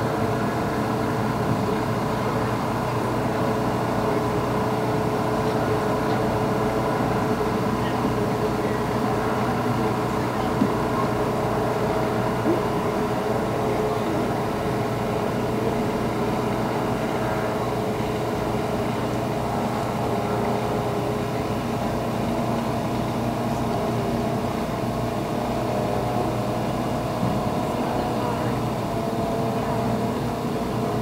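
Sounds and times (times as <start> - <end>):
racing boat engine droning: 0.0 - 31.0.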